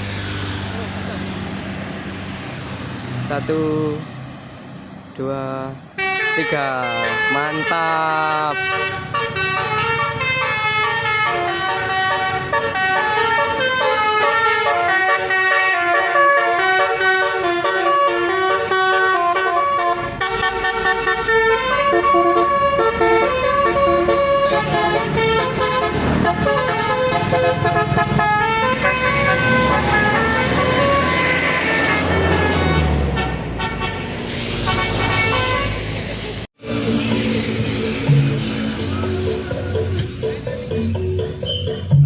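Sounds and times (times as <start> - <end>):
bus engine rumbling: 0.0 - 42.0
road noise: 0.0 - 42.0
bus horn playing a tune: 5.9 - 36.0, 36.6 - 40.5.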